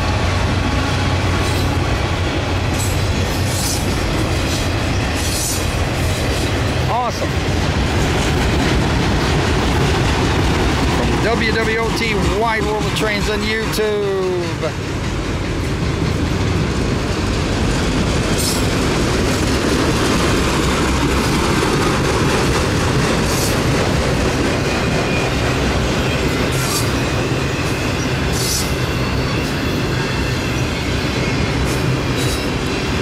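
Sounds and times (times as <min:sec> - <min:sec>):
freight train wheels clattering: 0:00.0 - 0:33.0.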